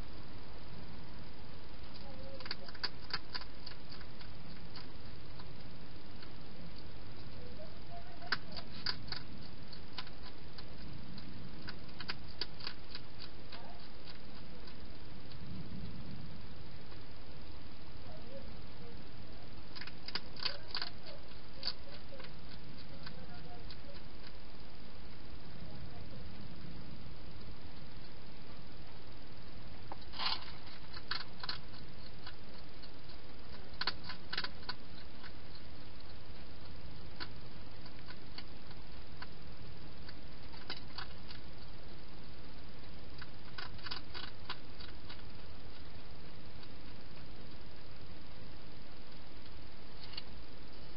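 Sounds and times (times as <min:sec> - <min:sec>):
hedgehog chewing and crunching: 0:00.0 - 0:50.9
steady hiss: 0:00.0 - 0:50.9.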